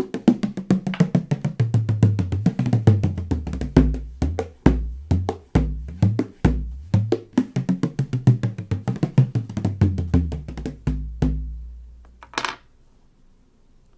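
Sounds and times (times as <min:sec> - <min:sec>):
frame drum beating: 0:00.0 - 0:11.9.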